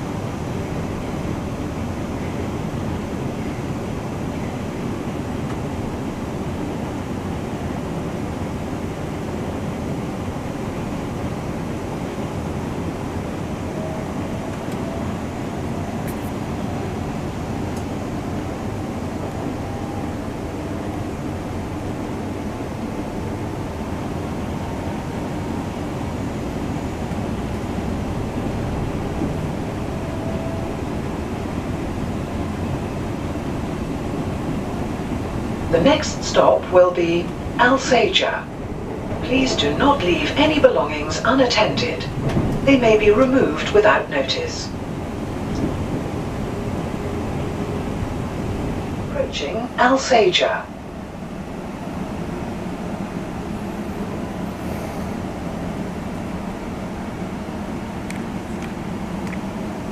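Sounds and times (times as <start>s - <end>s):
train rumbling in motion: 0.0s - 59.9s.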